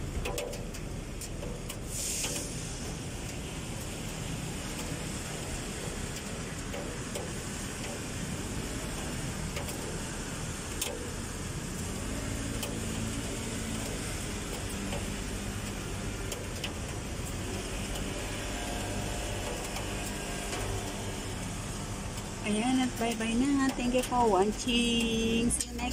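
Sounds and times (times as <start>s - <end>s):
car traffic passing: 0.0s - 25.9s
engine hum: 0.0s - 25.9s
rain hissing on street: 0.0s - 25.9s.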